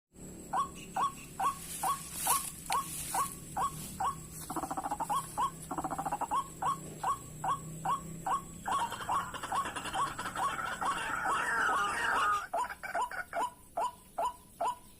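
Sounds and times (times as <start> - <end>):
bird calling short repeated notes: 0.5 - 14.9.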